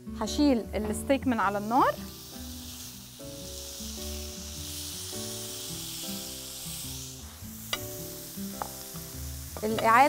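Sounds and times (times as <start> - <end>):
soft background music: 0.0 - 10.0
steak sizzling on grill pan: 0.8 - 10.0.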